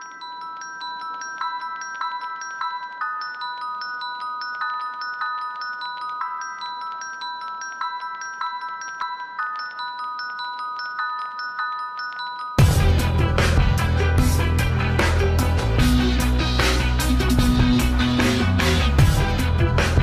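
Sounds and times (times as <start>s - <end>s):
glockenspiel-like chime melody: 0.0s - 20.0s.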